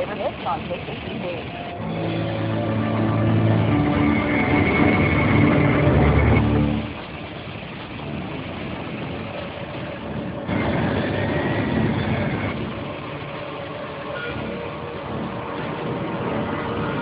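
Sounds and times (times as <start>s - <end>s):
freeway traffic: 0.0s - 17.0s.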